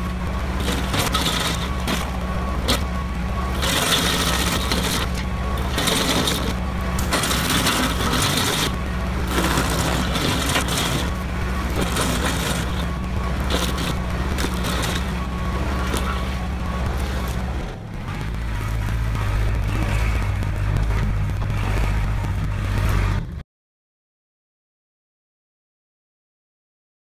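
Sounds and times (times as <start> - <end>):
stump grinder chewing wood: 0.0 - 23.3
tractor engine droning: 0.0 - 23.4.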